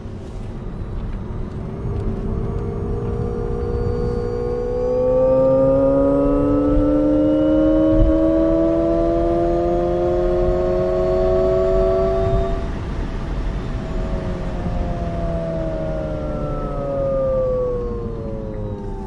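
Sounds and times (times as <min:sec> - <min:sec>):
electric car synthetic drive hum: 0:00.0 - 0:19.0.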